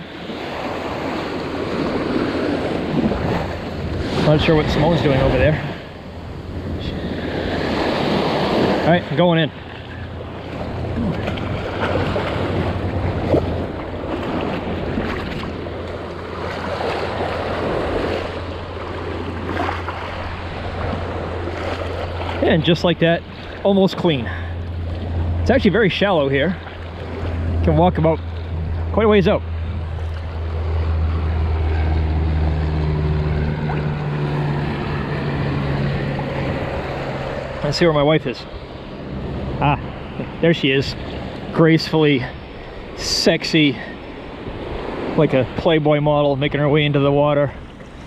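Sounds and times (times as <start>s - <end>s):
wind rumble on microphone: 0.0s - 41.6s
low engine drone: 0.0s - 48.0s
surf washing over sandy beach: 0.0s - 48.0s.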